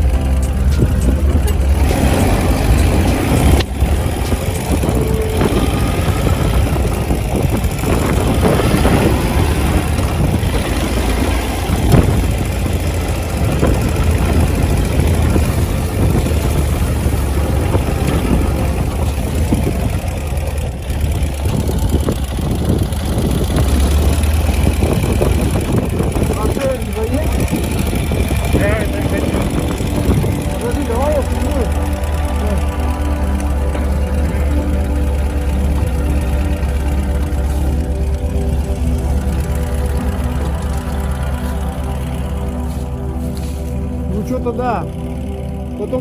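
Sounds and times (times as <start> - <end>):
motorcycle engine running: 0.0 - 46.0
wind rumble on microphone: 0.0 - 46.0.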